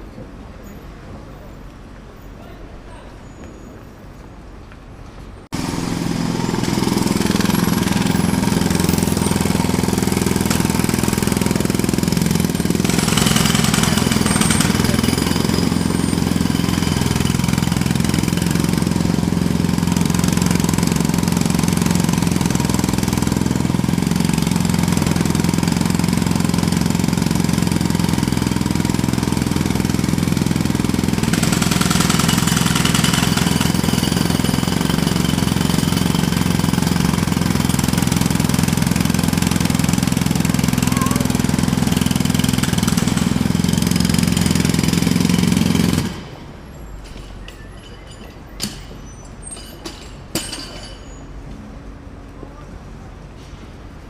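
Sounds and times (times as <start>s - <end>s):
jackhammer running: 5.5s - 51.2s.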